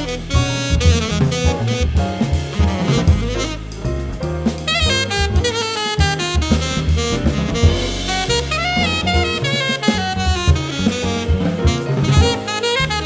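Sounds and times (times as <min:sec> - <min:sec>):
bass: 0:00.0 - 0:13.0
drum kit: 0:00.0 - 0:13.0
piano: 0:00.0 - 0:13.0
saxophone melody: 0:00.0 - 0:13.0.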